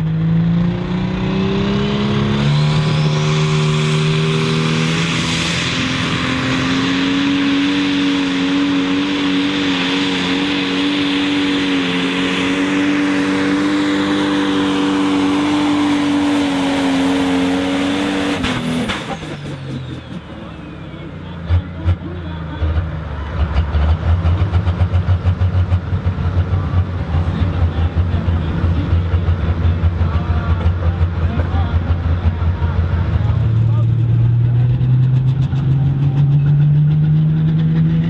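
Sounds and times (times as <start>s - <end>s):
diesel tractor engine at full throttle: 0.0s - 38.0s.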